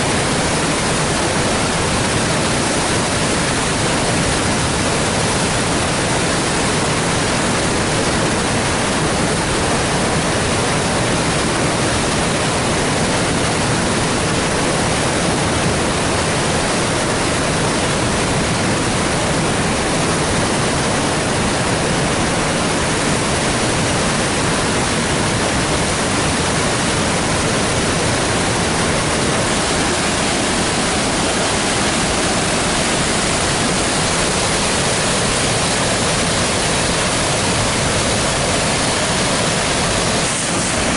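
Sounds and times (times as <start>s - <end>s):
river rushing through rapids: 0.0s - 40.9s.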